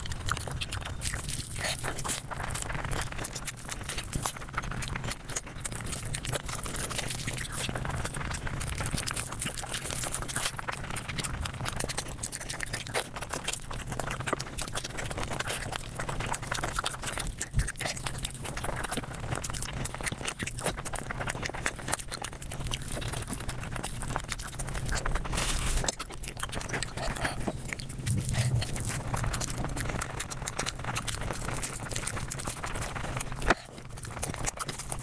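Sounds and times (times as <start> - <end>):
rapid crunching and chewing: 0.0 - 35.0.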